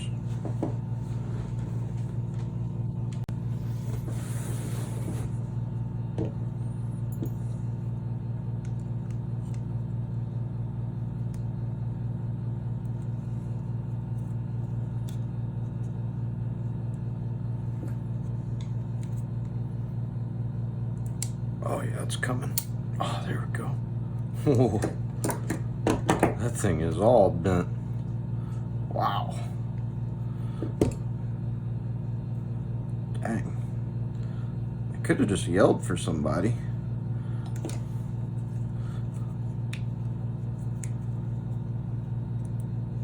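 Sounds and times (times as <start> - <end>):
low machine hum: 0.0 - 43.0.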